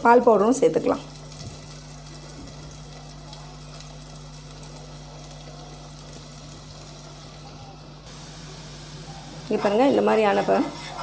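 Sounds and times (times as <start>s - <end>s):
low steady hum: 0.0s - 11.0s
milk heating in pot hissing: 1.0s - 11.0s.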